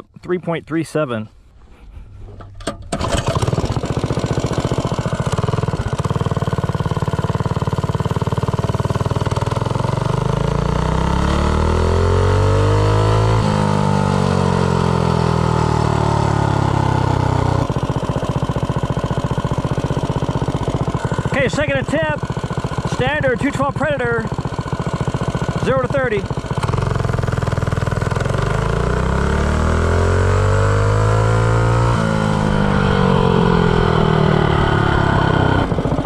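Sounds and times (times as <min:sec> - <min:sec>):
minibike engine idling and revving: 0:03.0 - 0:36.0.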